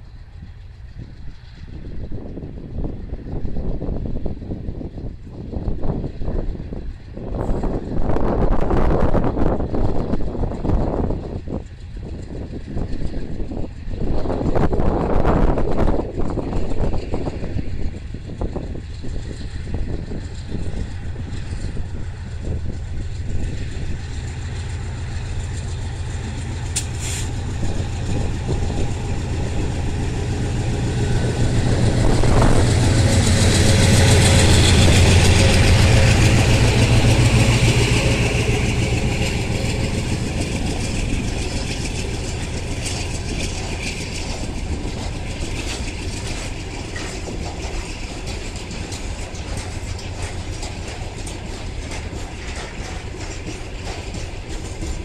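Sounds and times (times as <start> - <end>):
diesel locomotive engine: 0.0 - 55.0
wagons rolling on rails: 11.0 - 55.0.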